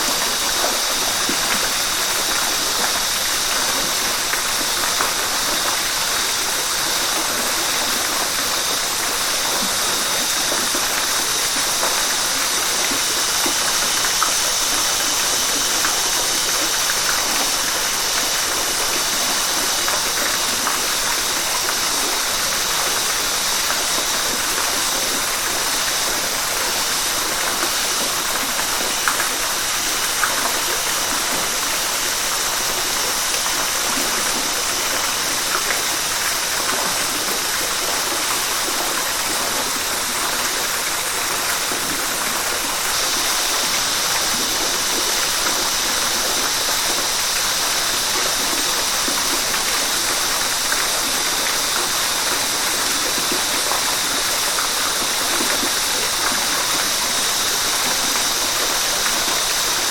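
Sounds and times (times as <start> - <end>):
river water splashing over rocks: 0.0 - 59.9.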